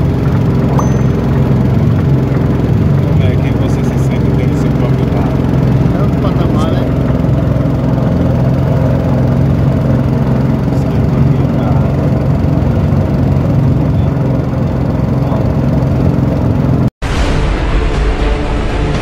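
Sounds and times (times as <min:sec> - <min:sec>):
small boat motor running: 0:00.0 - 0:16.9.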